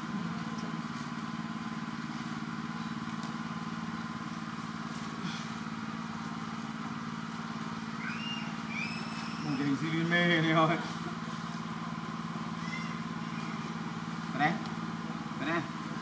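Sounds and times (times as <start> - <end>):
engine droning steadily: 0.0 - 16.0.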